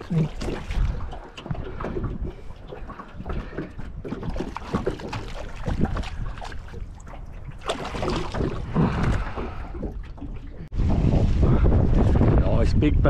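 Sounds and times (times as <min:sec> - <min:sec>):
fish splashing in water: 0:00.0 - 0:10.6
wind buffeting microphone: 0:00.4 - 0:13.0.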